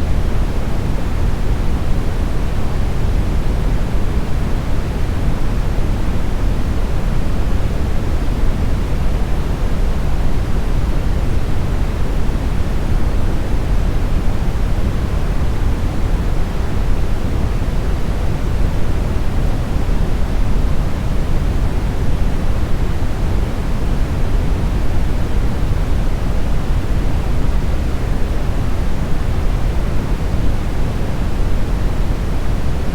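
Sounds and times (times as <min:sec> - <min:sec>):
deep brown noise hiss: 0:00.0 - 0:32.9.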